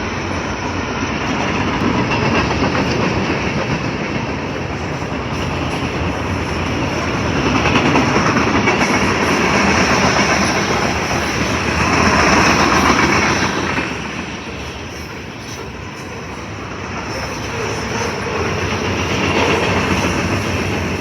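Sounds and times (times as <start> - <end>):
freight train wheels clattering: 0.0 - 21.0.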